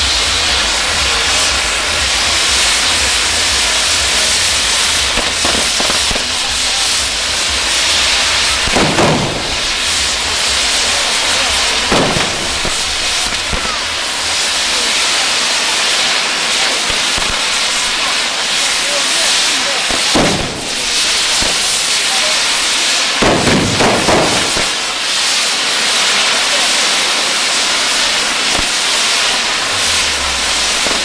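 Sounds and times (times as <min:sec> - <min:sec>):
fireworks hissing: 0:00.0 - 0:31.0.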